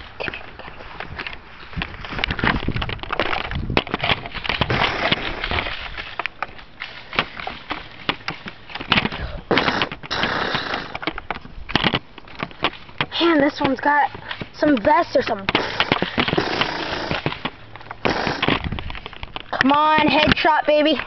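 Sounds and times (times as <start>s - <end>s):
rustling and scuffing footsteps: 0.0s - 10.1s, 10.7s - 18.0s, 18.6s - 21.0s
microphone handling noise: 0.0s - 20.5s
toy blaster clicks and knocks: 1.2s - 6.5s, 7.2s - 21.0s.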